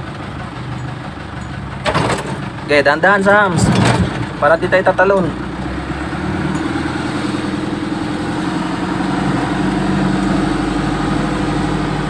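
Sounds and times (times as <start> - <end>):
truck engine running at low revs: 0.0 - 12.0.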